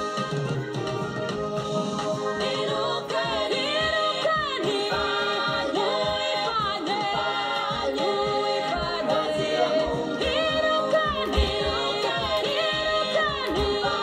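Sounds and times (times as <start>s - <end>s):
voices singing together: 1.1s - 14.0s.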